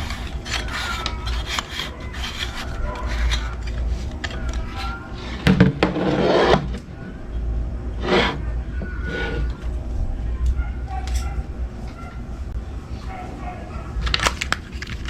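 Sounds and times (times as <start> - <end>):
rubbing and scraping handling noise: 0.0 - 7.0, 7.9 - 15.0
low hum: 0.0 - 15.0.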